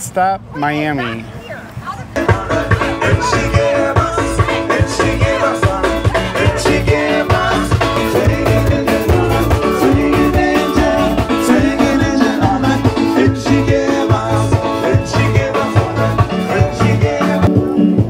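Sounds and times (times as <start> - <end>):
upbeat music with steady beat: 2.2 - 18.0.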